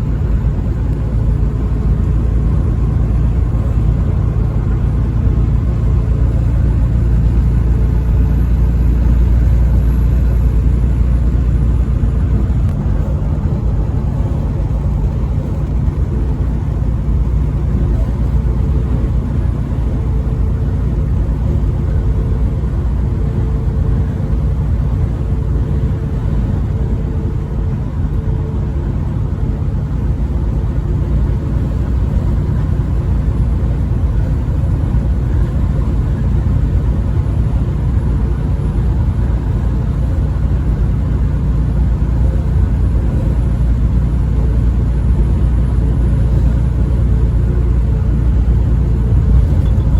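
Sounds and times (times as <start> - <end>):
road noise: 0.0 - 49.9
vehicle engine rumble: 0.0 - 49.9.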